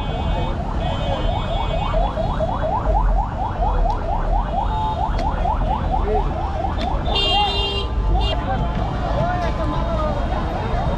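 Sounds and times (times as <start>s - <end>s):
road traffic rumble: 0.0s - 10.9s.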